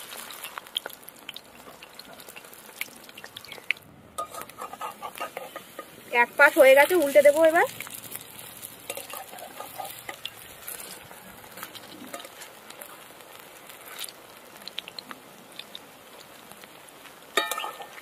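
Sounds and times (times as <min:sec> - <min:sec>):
fritters sizzling in hot oil: 0:00.0 - 0:18.0.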